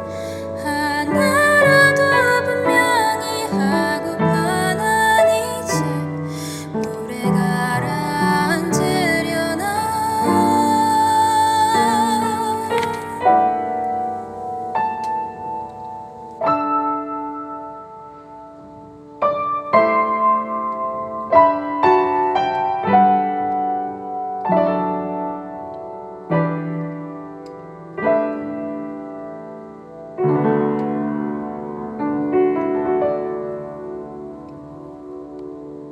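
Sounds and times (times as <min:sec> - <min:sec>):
gentle solo piano music: 0:00.0 - 0:35.9.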